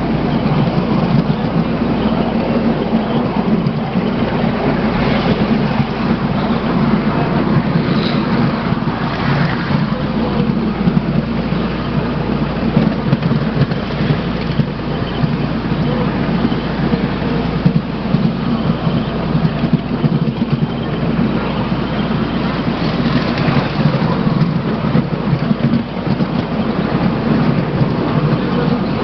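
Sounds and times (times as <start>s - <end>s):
miniature train rumbling on track: 0.0s - 29.0s.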